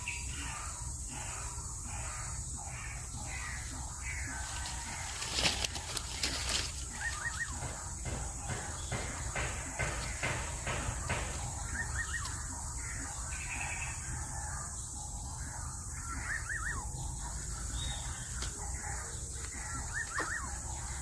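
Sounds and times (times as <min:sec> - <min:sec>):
bird calling: 0:00.0 - 0:21.0.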